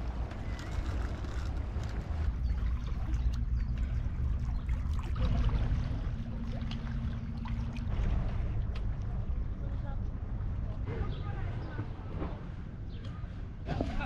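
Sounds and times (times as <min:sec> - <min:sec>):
low hum: 0:00.0 - 0:14.0
water lapping and splashing: 0:00.0 - 0:14.0.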